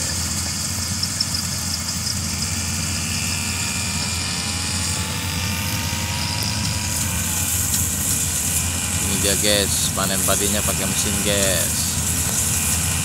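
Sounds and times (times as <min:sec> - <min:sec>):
harvester engine droning: 0:00.0 - 0:13.0.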